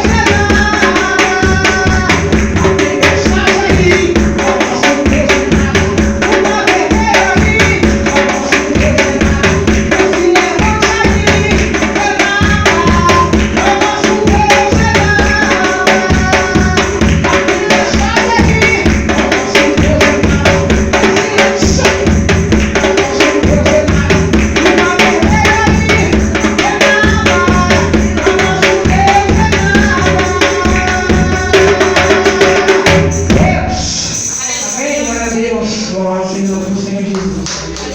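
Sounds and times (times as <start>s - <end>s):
bass drum beat: 0.0s - 34.2s
hand drum fast strokes: 0.0s - 34.8s.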